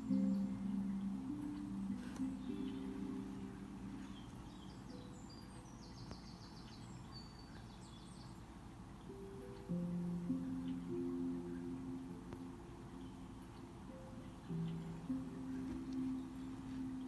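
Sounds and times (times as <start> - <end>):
birds chirping: 0.0 - 17.0
soft background music: 0.0 - 17.0.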